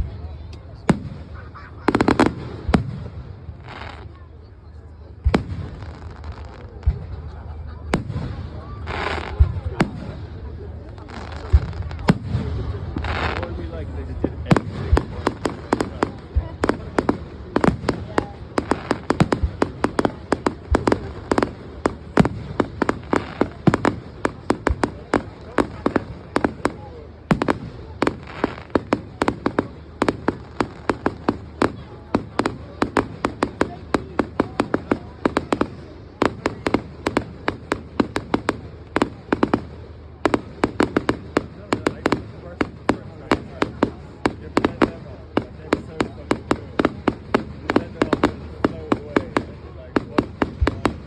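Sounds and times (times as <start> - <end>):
deep fireworks booms: 0.0 - 4.2, 5.0 - 51.0
fireworks cracks and bangs: 0.0 - 4.3, 5.0 - 51.0.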